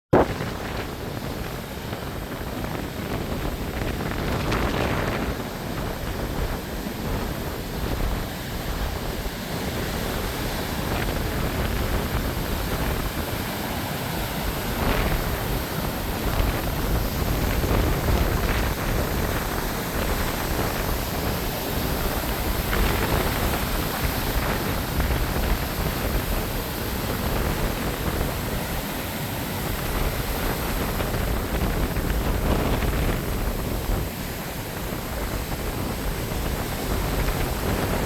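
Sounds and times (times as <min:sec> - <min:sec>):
ocean surf: 0:00.1 - 0:38.0
wind buffeting microphone: 0:00.1 - 0:38.0.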